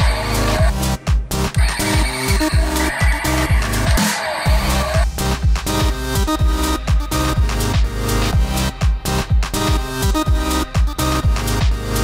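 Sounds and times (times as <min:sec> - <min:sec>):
electronic dance music: 0:00.0 - 0:12.0
heavy bass drum beat: 0:00.0 - 0:12.0.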